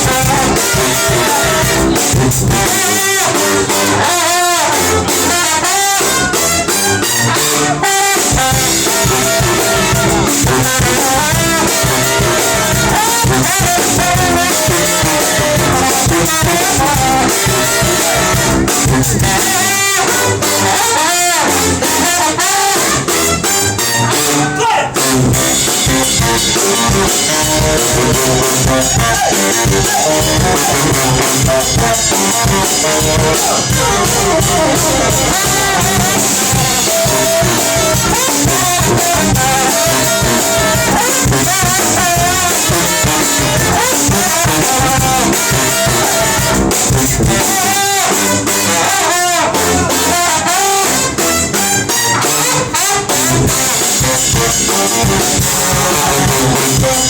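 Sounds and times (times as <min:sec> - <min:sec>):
brass band playing: 0:00.0 - 0:57.0
drum kit: 0:00.0 - 0:57.0.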